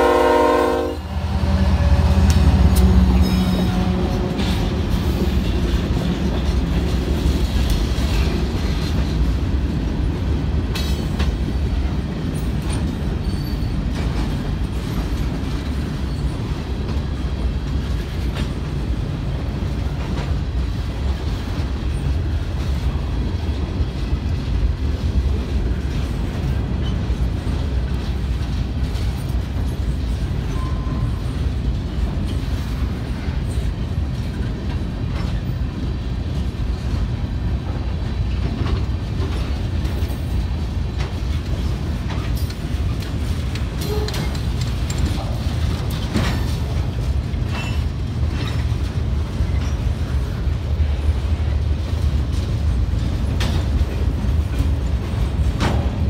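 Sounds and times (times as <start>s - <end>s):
train wheels rumbling on rails: 0.0s - 56.0s
wheels clicking on rail joints: 1.7s - 56.0s.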